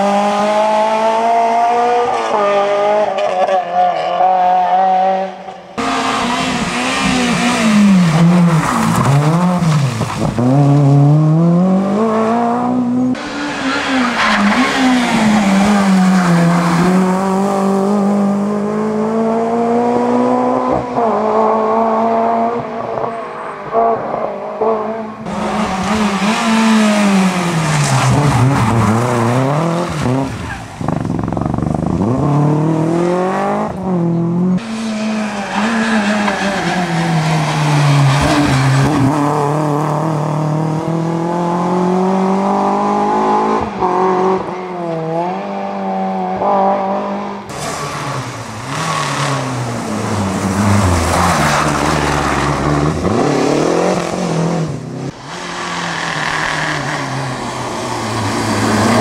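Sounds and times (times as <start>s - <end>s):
rally car engines passing: 0.0s - 59.0s.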